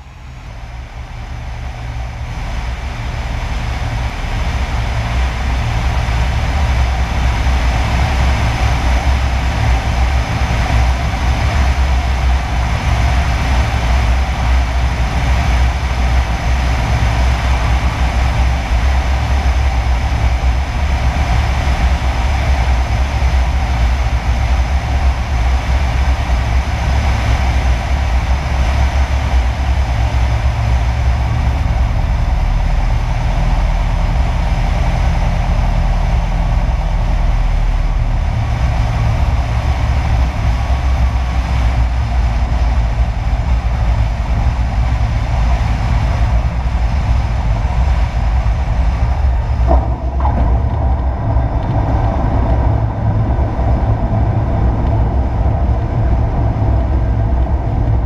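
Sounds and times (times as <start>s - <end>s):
light aircraft engine drone: 0.0s - 58.0s
rushing airflow on microphone: 0.0s - 58.0s.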